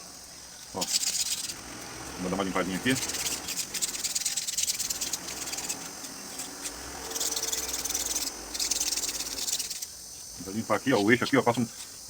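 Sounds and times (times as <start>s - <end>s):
sandpaper scratching on shaft: 0.0s - 11.1s.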